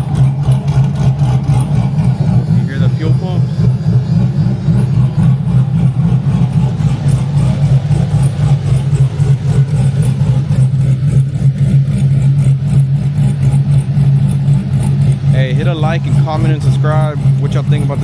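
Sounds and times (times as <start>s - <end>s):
car engine choppy idle: 0.0s - 18.0s.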